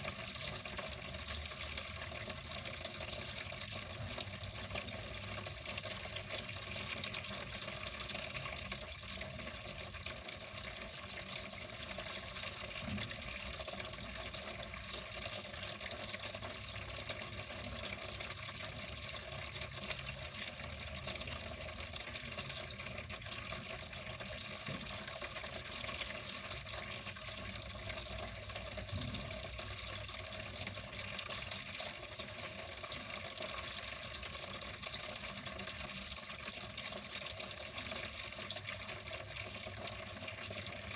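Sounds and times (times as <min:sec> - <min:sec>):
water flowing: 0:00.0 - 0:40.9.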